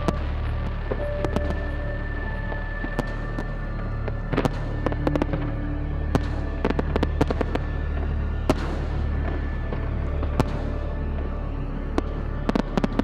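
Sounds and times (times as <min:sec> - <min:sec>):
background music with low drone: 0:00.0 - 0:13.0
fireworks bangs and crackles: 0:00.0 - 0:13.0.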